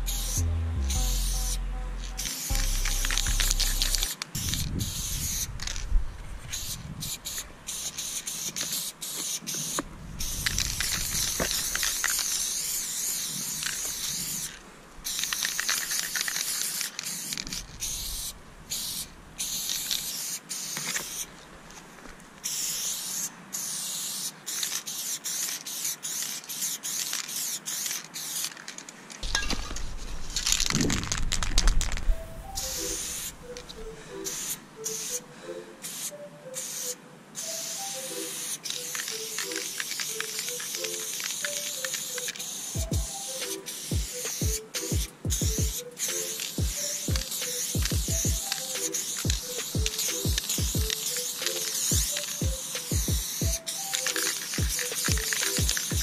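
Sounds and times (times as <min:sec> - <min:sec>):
spray-paint can hissing: 0:00.0 - 0:05.9, 0:06.5 - 0:21.3, 0:22.4 - 0:28.8, 0:30.2 - 0:31.5, 0:32.1 - 0:35.2, 0:35.8 - 0:56.0.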